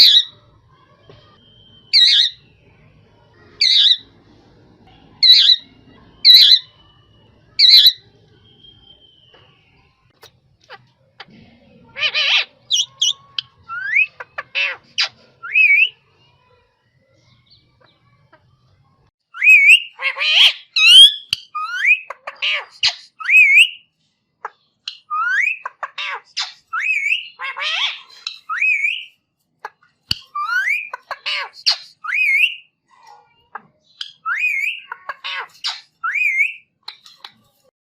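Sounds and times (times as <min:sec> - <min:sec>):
parakeet whistles and squawks: 0:00.0 - 0:04.4, 0:05.0 - 0:16.0, 0:19.3 - 0:37.7.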